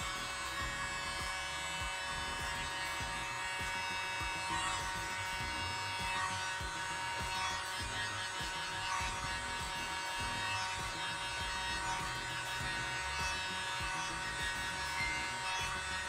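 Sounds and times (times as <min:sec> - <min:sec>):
electric air blower whine: 0:00.0 - 0:16.0.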